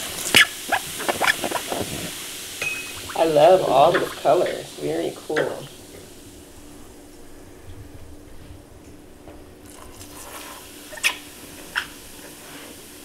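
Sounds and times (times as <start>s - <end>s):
soft fizzing hiss: 0.0s - 13.0s.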